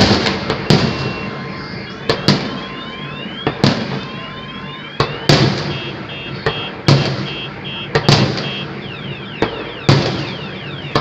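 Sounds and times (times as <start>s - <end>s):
firework bangs echoing: 0.0s - 4.2s, 4.9s - 11.0s
rising firework whistles: 0.0s - 11.0s.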